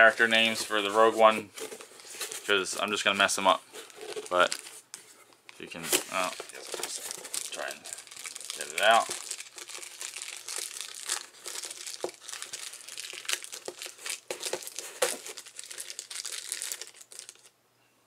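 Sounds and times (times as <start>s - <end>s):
plastic bag crinkling: 0.0s - 4.9s, 5.6s - 17.5s.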